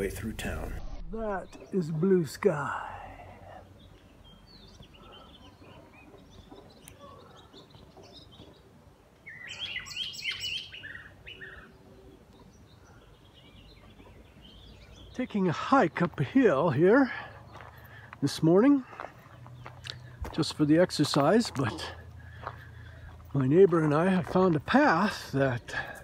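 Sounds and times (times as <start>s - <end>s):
small birds chirping and singing: 0.0s - 26.0s.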